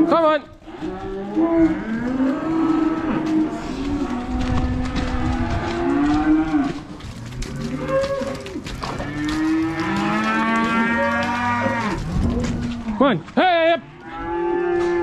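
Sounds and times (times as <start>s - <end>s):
calves bawling: 0.0s - 15.0s
long drawn-out moo: 0.7s - 6.8s, 7.4s - 12.9s, 14.0s - 15.0s.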